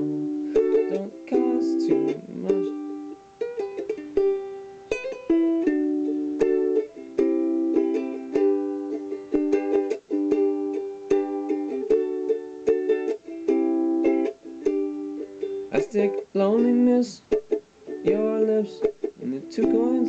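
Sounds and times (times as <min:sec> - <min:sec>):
ukulele chords strummed: 0:00.0 - 0:20.0.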